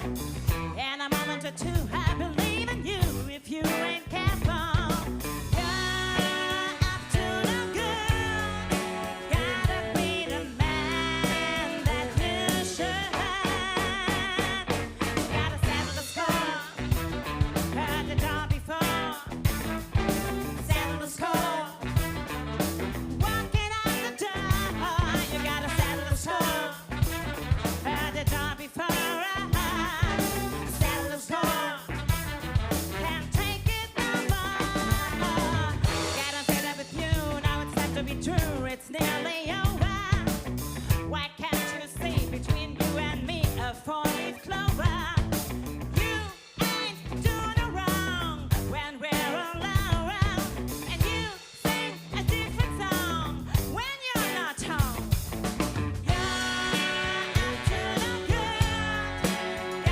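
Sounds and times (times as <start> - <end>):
drum kit beat: 0.0 - 59.9
funk band playing: 0.0 - 59.9.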